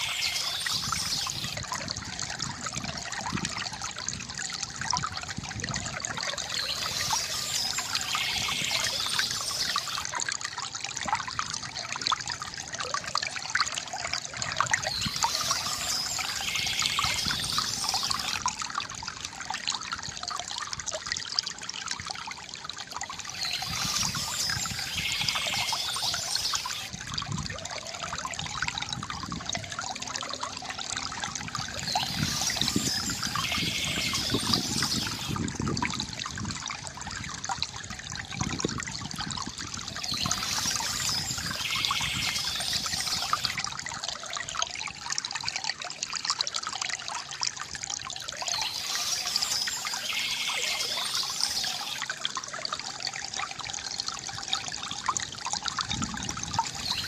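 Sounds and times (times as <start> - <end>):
water trickling from fountain spout: 0.0 - 57.0.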